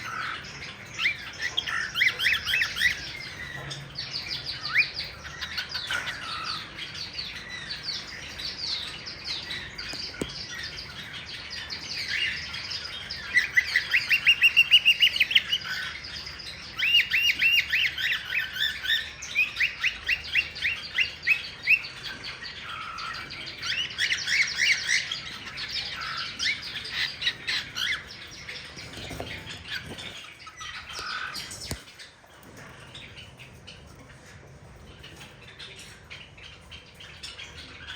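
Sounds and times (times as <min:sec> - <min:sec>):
cockatiels chirping and squawking: 0:00.0 - 0:37.9.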